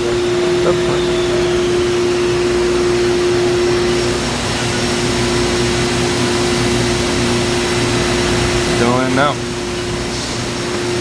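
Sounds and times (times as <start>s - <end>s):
lower hum tone: 0.0s - 11.0s
milling machine whine and hum: 0.0s - 11.0s.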